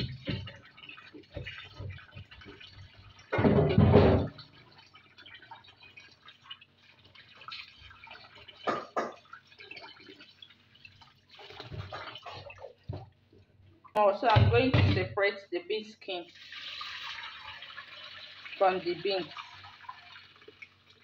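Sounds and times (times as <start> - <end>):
water splashing in a bowl: 0.0 - 13.2, 16.3 - 21.0.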